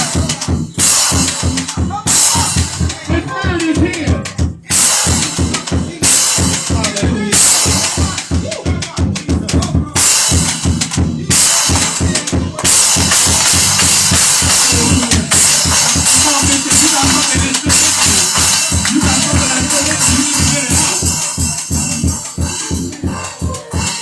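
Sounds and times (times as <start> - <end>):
cymbals: 0.0 - 3.1, 3.7 - 9.3, 10.0 - 24.0
bass drum beat: 0.0 - 24.0
praise music: 0.0 - 24.0.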